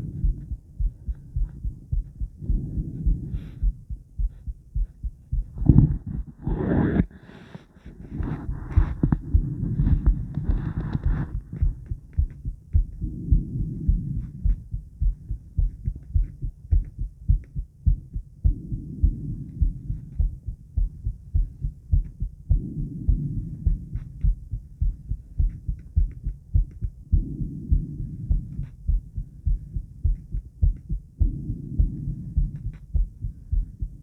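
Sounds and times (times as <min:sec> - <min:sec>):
heartbeat thumps: 0:00.0 - 0:34.0.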